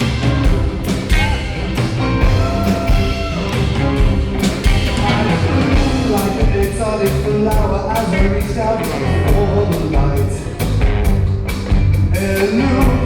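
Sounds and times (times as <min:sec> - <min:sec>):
drums keeping a beat: 0:00.0 - 0:13.0
live band music: 0:00.0 - 0:13.0.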